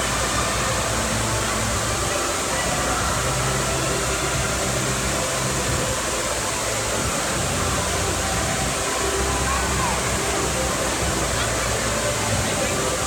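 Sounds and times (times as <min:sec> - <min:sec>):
waves breaking in a wave pool: 0:00.0 - 0:13.0.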